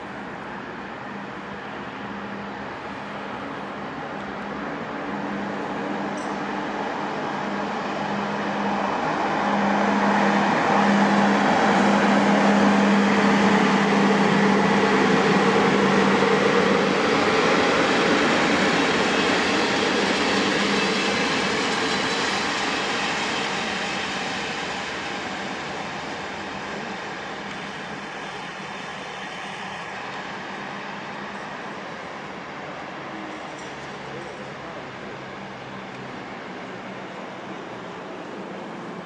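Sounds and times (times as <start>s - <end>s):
train wheels rolling on rails: 0.0s - 39.0s.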